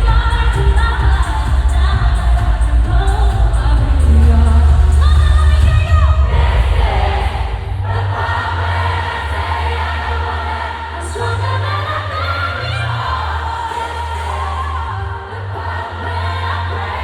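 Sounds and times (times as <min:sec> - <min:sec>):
audience singing along: 0:00.0 - 0:17.0
heavy pulsing bass: 0:00.0 - 0:17.0
live pop music: 0:00.0 - 0:17.0.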